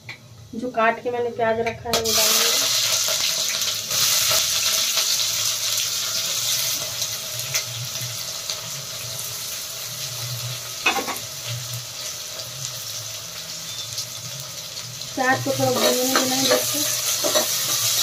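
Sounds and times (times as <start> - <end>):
onions sizzling in hot oil: 0.5 - 18.0.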